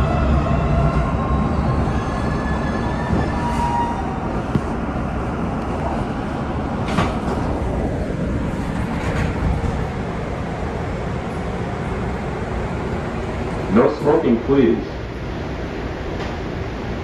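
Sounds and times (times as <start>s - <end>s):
subway train rumble: 0.0s - 17.0s
train whine: 0.0s - 17.0s.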